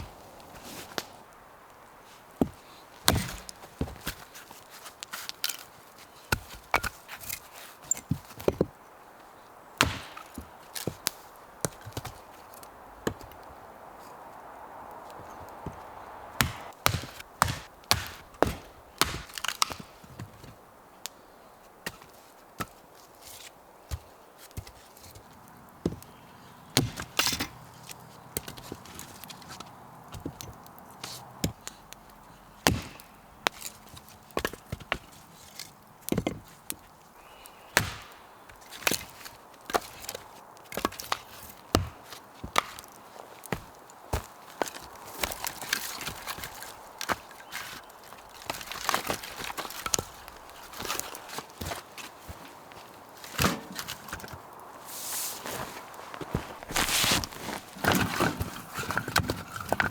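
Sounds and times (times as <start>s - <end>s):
firewood being chopped: 2.3s - 4.4s, 6.3s - 8.8s, 9.8s - 13.6s, 15.3s - 21.2s, 21.8s - 54.6s, 55.4s - 59.9s.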